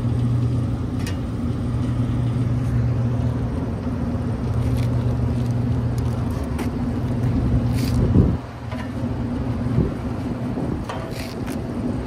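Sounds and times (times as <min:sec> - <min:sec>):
hvac equipment humming: 0:00.0 - 0:12.0.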